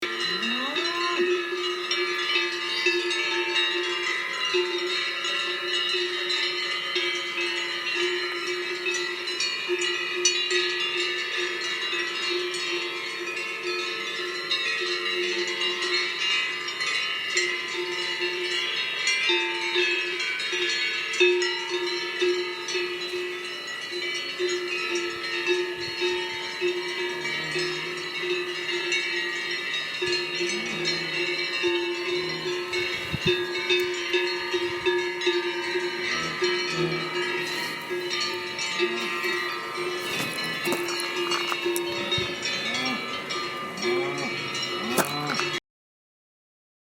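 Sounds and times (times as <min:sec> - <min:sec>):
cowbells clanking: 0:00.0 - 0:45.6.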